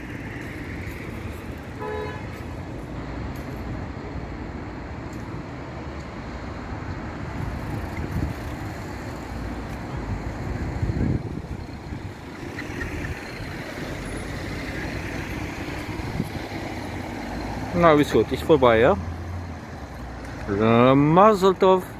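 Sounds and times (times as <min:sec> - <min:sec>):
low rumble of traffic: 0:00.0 - 0:21.9.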